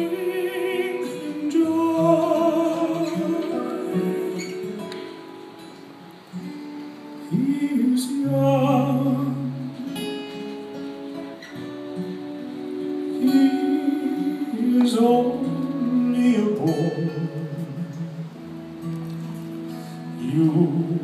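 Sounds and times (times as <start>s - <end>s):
man singing with vibrato: 0.0s - 5.4s, 7.1s - 18.8s, 19.8s - 21.0s
guitar accompaniment: 0.0s - 21.0s.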